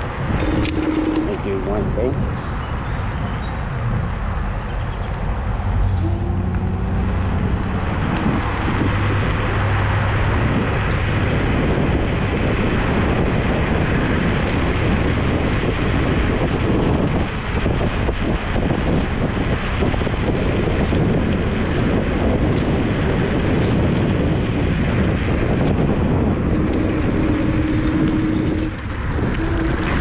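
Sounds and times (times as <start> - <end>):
tyre and road noise: 0.0 - 30.0
wind rushing over microphone: 0.0 - 30.0.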